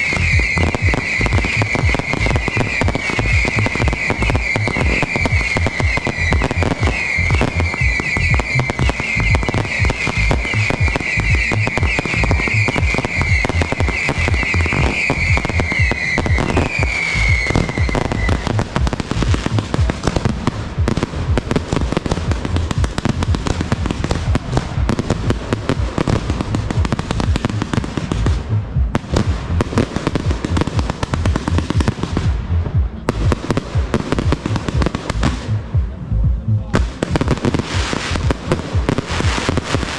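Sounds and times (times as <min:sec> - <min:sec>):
whistling fireworks: 0:00.0 - 0:32.4, 0:36.9 - 0:39.9
fireworks bangs and crackles: 0:00.0 - 0:39.9.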